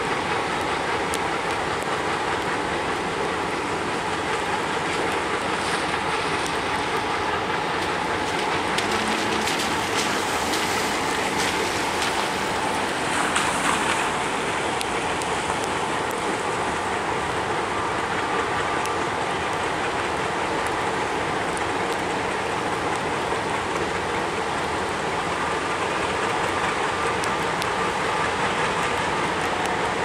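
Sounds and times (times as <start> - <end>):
diesel locomotives rolling past: 0.0 - 30.0
steady hiss: 0.0 - 30.0.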